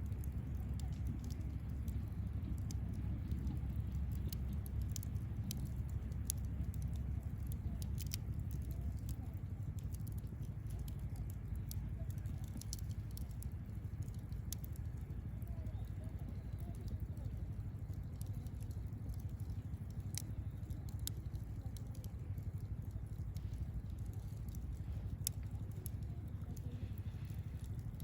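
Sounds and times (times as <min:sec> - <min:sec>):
campfire crackling and popping: 0:00.0 - 0:28.0
fire low rumble: 0:00.0 - 0:28.0.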